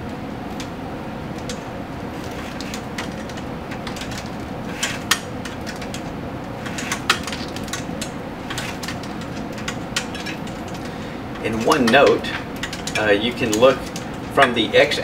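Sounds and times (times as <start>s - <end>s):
plastic spiral wrap rustling: 0.0s - 15.0s
steady background hum: 0.0s - 15.0s.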